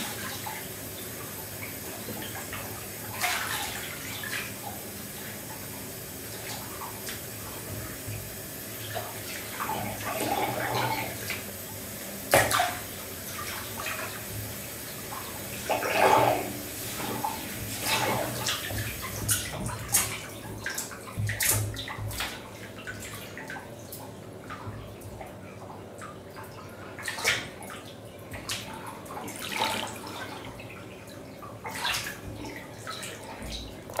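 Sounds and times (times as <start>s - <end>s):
splashing and sloshing in water: 0.0s - 34.0s
tap water pouring into bathtub: 0.0s - 34.0s.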